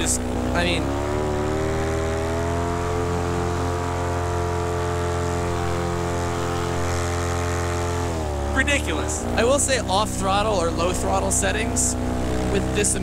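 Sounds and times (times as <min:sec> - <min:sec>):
paramotor engine droning: 0:00.0 - 0:13.0.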